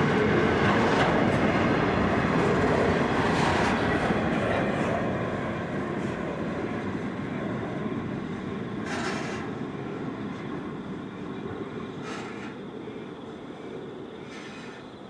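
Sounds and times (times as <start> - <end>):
freight train rolling on rails: 0.0 - 15.0.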